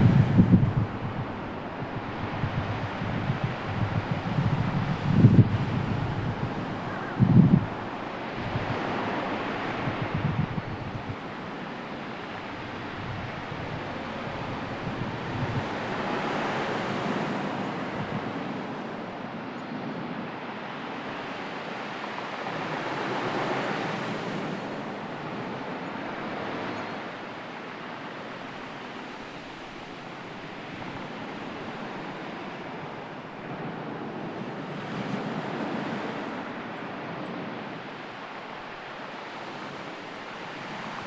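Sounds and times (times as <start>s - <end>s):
waves washing in: 0.0s - 41.0s.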